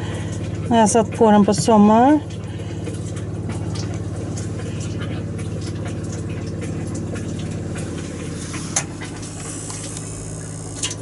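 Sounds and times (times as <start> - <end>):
electric motor pulsing hum: 0.0 - 11.0.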